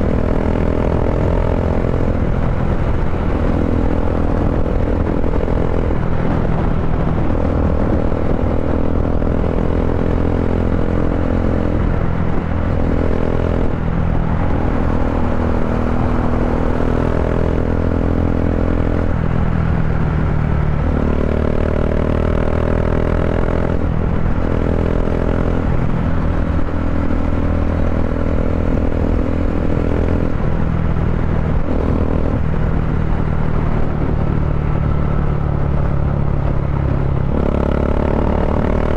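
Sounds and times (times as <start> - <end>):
motorcycle exhaust drone: 0.0 - 38.9.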